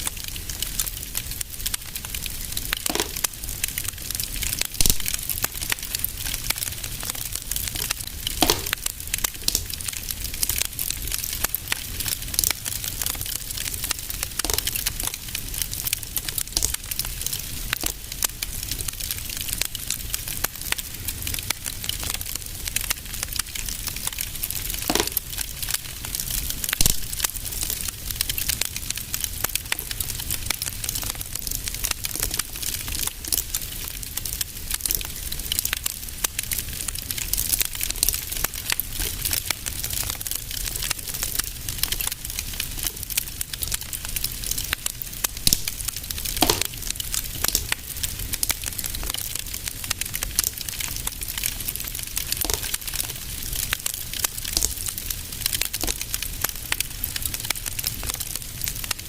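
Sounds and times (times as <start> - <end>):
low rumble of fire: 0.0 - 59.0
wood fire crackling and popping: 0.0 - 59.0.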